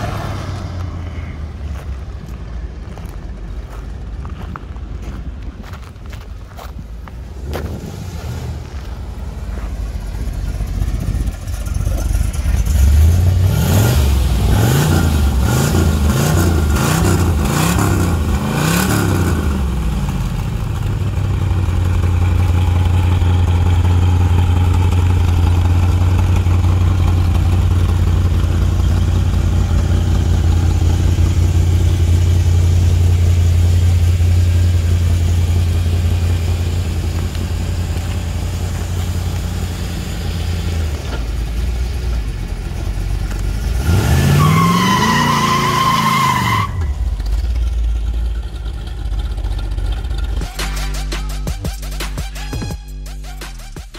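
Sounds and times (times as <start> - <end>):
car engine idling: 0.0 - 43.8, 44.6 - 52.2
car engine revving: 7.4 - 52.0.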